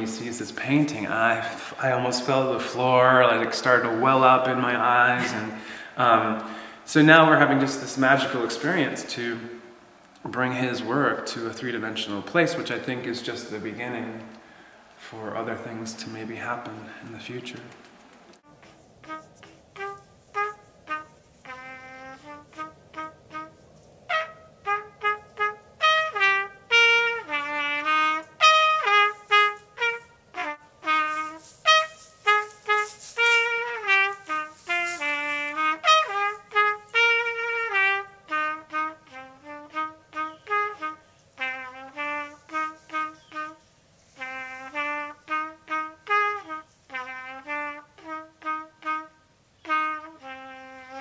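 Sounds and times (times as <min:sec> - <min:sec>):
solo trumpet melody: 0:00.0 - 0:09.8, 0:18.4 - 0:51.0.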